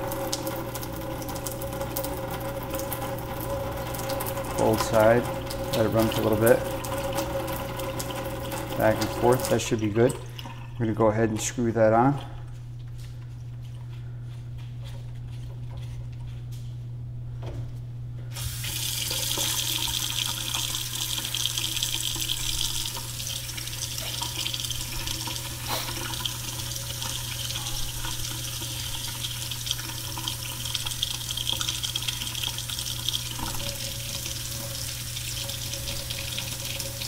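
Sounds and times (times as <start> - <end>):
water running from faucet into sink: 0.0 - 12.2, 18.4 - 37.0.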